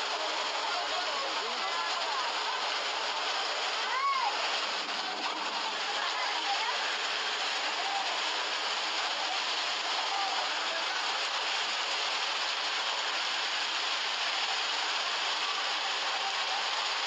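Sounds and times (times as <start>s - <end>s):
muddy torrent rushing: 0.0s - 17.0s.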